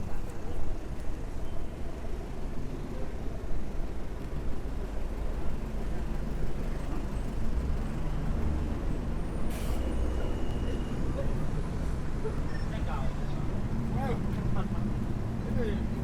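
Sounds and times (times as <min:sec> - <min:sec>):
heavy vehicle engine rumble: 0:00.0 - 0:16.0
street traffic rumble: 0:00.0 - 0:16.0.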